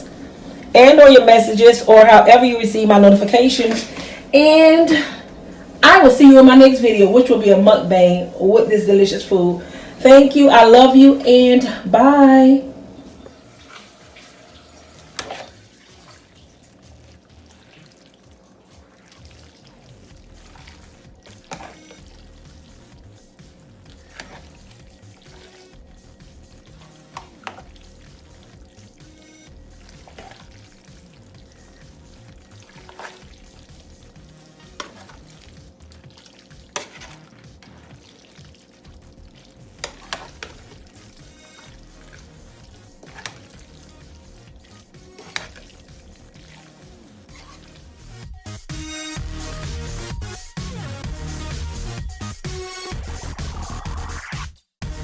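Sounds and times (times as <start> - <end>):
faint background music: 0.0 - 54.2.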